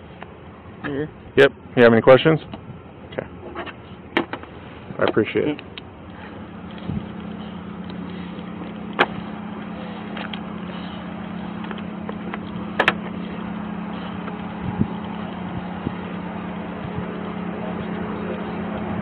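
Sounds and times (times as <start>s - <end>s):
low hum: 2.5s - 19.0s.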